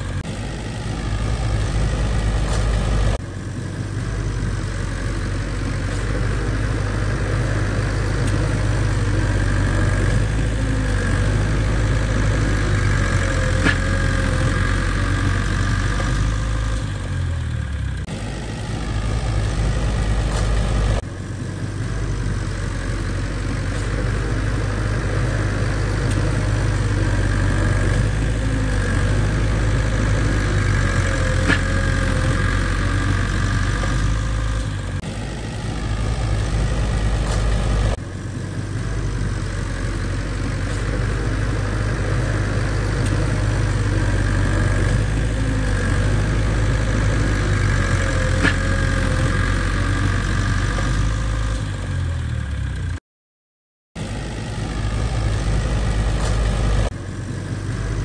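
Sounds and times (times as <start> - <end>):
heavy diesel engine running: 0.0 - 53.0, 54.0 - 58.0.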